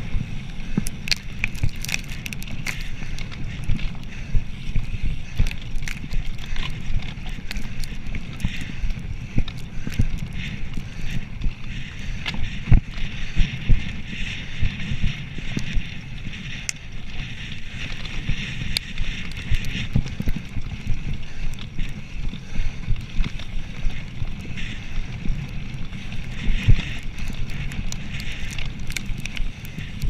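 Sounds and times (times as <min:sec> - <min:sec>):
bike tyres rumbling on dirt: 0:00.0 - 0:30.0
wind buffeting microphone: 0:00.0 - 0:30.0.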